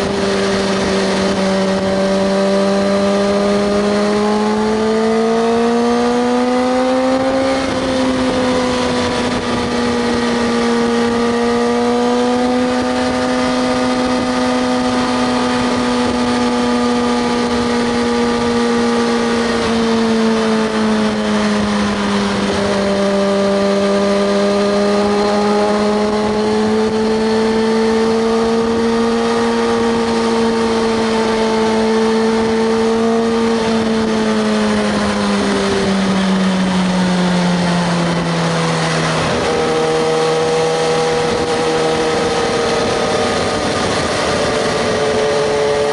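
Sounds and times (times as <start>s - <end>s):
motorcycle engine cruising: 0.0s - 45.9s
wind noise: 0.0s - 45.9s.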